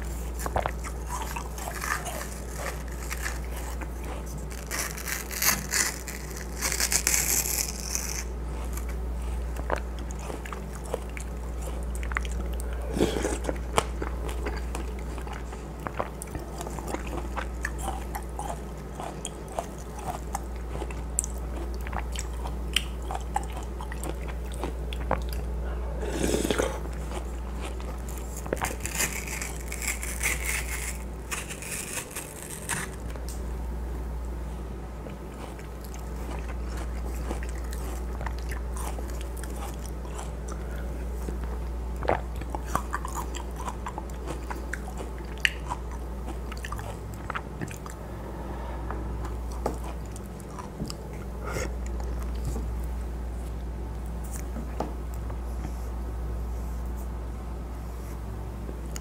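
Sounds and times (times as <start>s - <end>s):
chewing watermelon: 0.0s - 33.4s, 34.5s - 48.2s, 49.2s - 57.1s
steady low hum: 0.0s - 59.0s.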